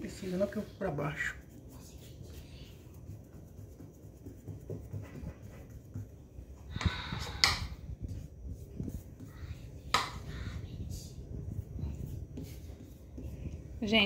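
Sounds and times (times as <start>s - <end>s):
hands rolling bread dough: 0.0s - 14.0s.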